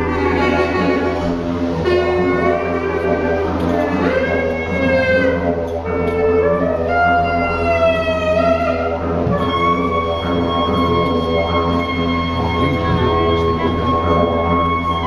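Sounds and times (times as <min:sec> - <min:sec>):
low drone: 0:00.0 - 0:15.0
sliding wavering melody: 0:00.0 - 0:15.0.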